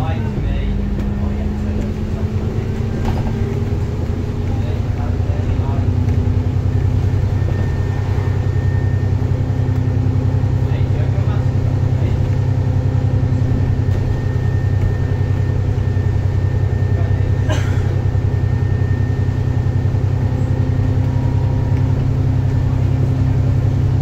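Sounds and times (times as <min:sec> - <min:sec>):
bus engine and road drone: 0:00.0 - 0:24.0.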